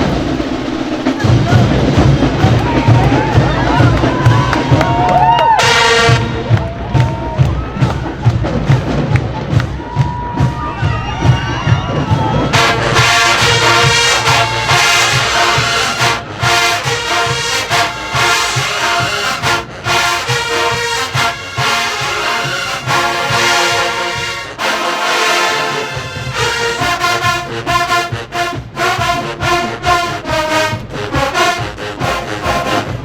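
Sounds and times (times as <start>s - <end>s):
marching band playing: 0.0s - 33.0s
trumpets and trombones: 0.0s - 33.0s.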